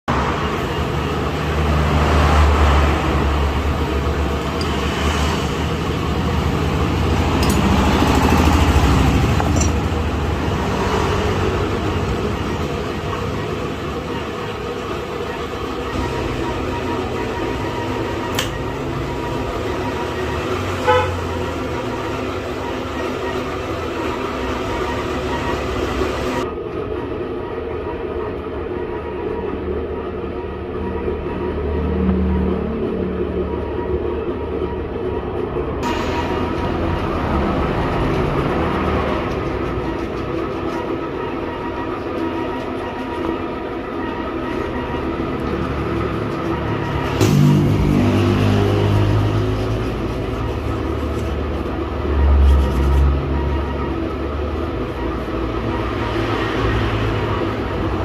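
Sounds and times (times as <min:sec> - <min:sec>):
vehicle engine running: 0:00.1 - 0:58.0.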